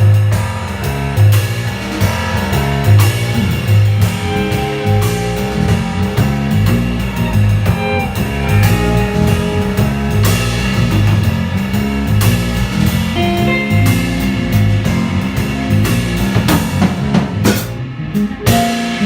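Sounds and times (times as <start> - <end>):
drum kit cymbals: 0.0 - 19.0
piano: 0.0 - 19.0
walking bass line: 0.0 - 19.0
electric guitar melody: 2.3 - 19.0.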